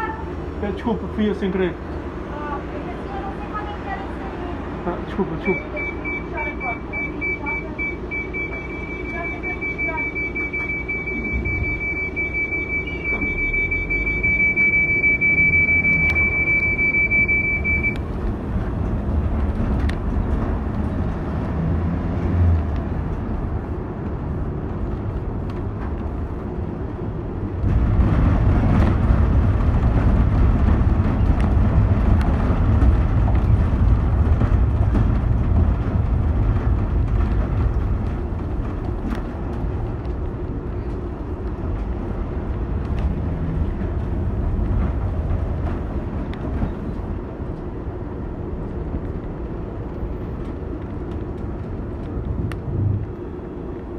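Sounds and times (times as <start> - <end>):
car engine and road rumble: 0.0 - 53.9.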